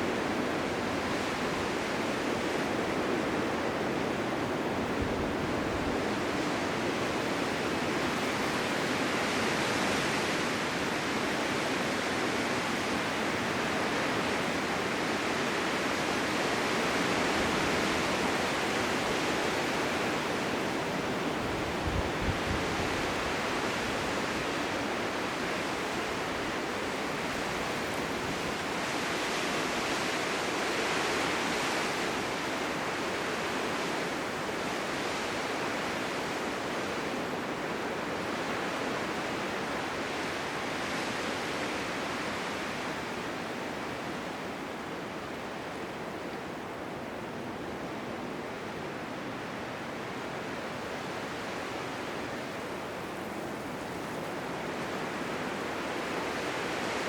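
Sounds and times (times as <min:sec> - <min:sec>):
blizzard wind blowing: 0:00.0 - 0:57.0.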